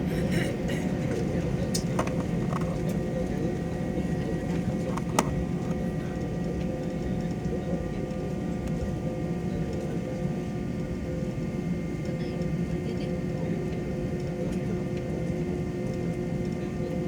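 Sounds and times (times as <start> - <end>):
airliner cabin hum: 0.0 - 17.0.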